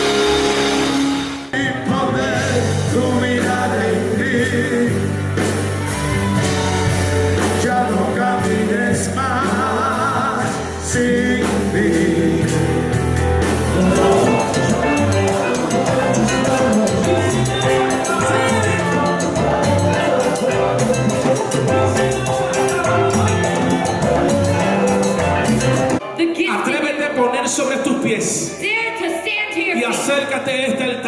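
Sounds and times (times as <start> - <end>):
steady bass line: 0.0 - 26.0
person singing with vibrato: 0.0 - 26.2.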